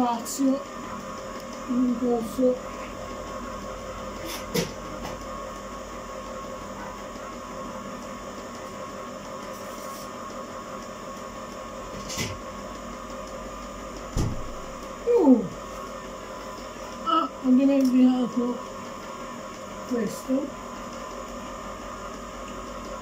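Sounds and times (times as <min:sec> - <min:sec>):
ice cream maker humming: 0:00.0 - 0:23.0.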